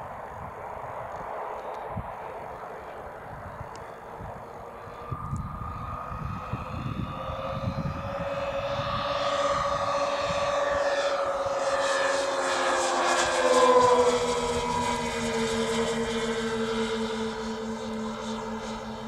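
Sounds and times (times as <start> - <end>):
model plane engines flying past: 0.0 - 19.0.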